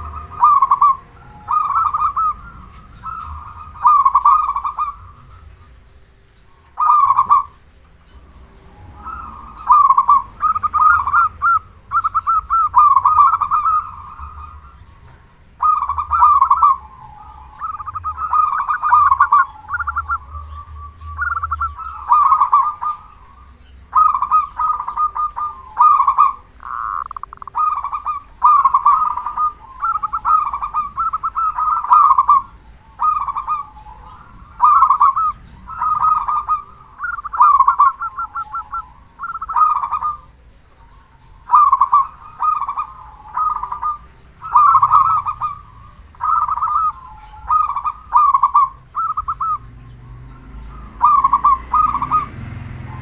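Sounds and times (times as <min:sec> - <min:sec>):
dove cooing: 0:00.0 - 0:53.0.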